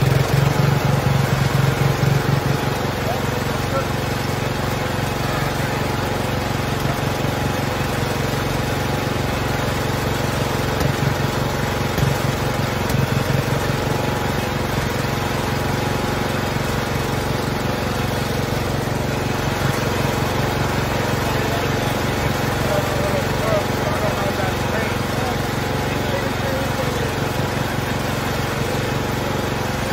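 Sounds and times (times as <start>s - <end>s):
tractor engine idling: 0.0s - 29.9s.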